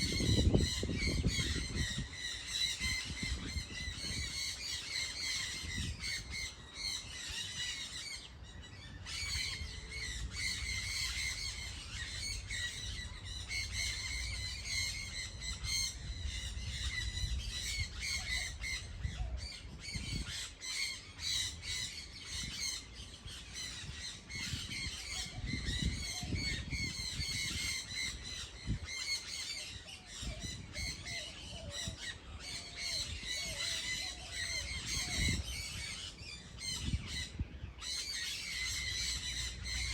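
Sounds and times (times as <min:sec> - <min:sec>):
chorus of birds calling: 0:00.0 - 0:39.9.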